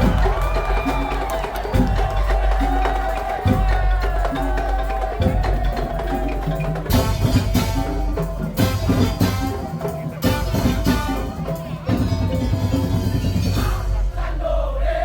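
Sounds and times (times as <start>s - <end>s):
slit drum ensemble music: 0.0s - 15.0s.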